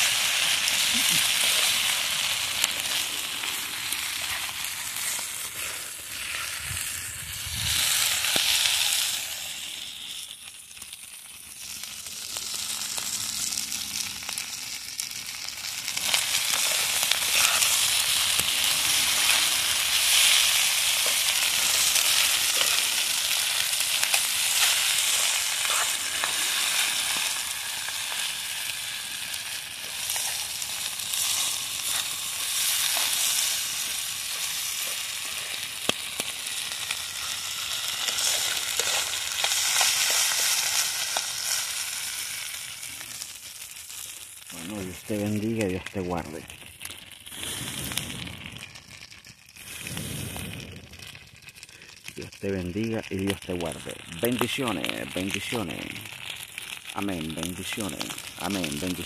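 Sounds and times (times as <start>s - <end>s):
rice sizzling in a pan: 0.0s - 59.0s.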